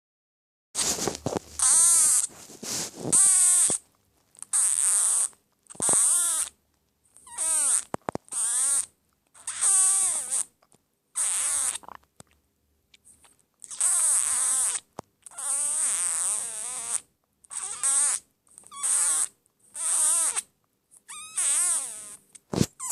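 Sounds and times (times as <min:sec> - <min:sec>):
person making squeaky hissing noises: 0:00.8 - 0:03.8, 0:04.4 - 0:06.5, 0:07.2 - 0:10.5, 0:11.2 - 0:11.9, 0:13.1 - 0:22.9.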